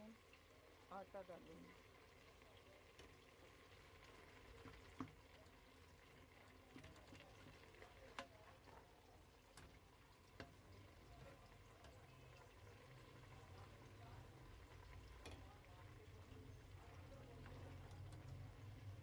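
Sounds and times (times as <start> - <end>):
greens bubbling in a pot: 0.0 - 19.0.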